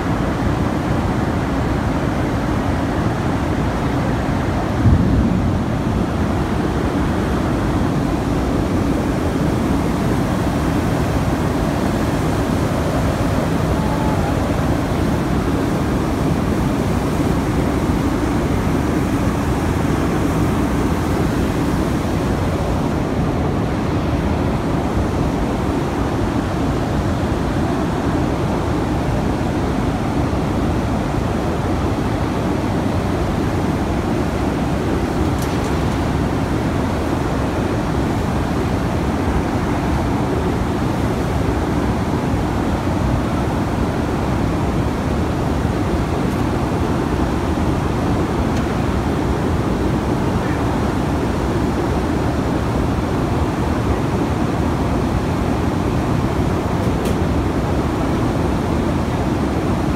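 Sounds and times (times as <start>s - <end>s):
blast furnace roar: 0.0s - 59.9s.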